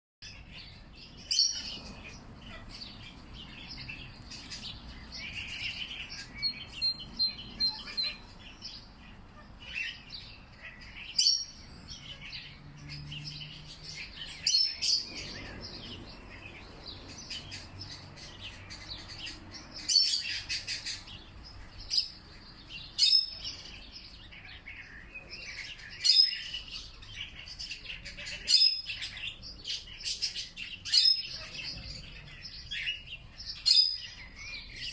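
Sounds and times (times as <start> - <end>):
bird trill: 0.2 - 34.9
songbirds chirping: 0.2 - 34.9.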